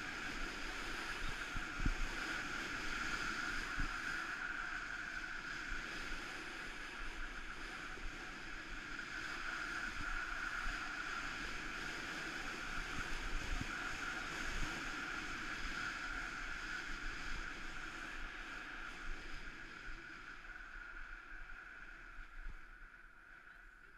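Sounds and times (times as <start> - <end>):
wind on microphone: 0.0 - 23.9.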